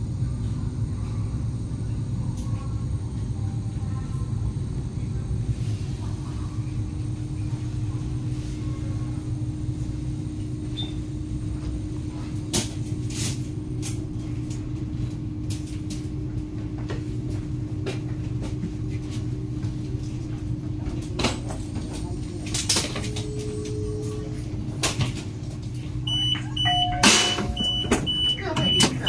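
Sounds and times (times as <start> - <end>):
train equipment humming: 0.0 - 29.0.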